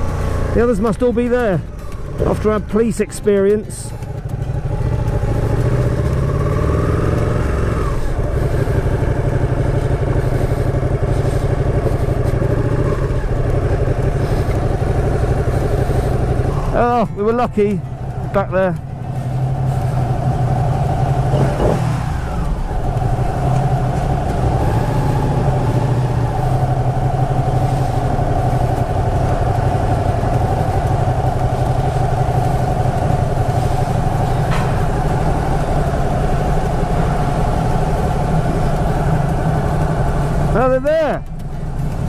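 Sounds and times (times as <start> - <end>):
motorcycle engine running: 0.0 - 42.0
wind noise: 3.9 - 42.0.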